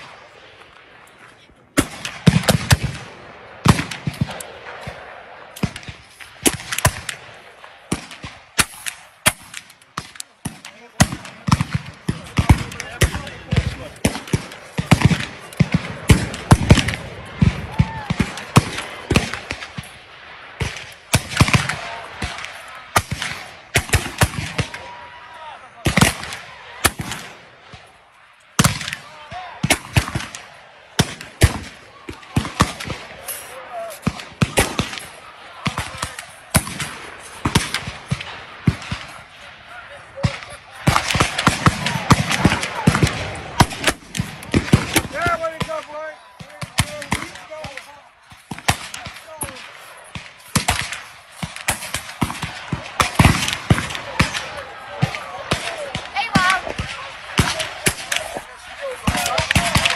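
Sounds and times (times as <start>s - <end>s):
musket shots: 0.0s - 24.9s, 25.8s - 28.0s, 28.6s - 59.9s.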